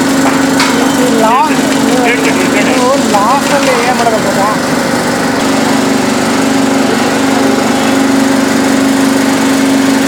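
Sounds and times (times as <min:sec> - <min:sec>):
machine steady mechanical hum: 0:00.0 - 0:10.0.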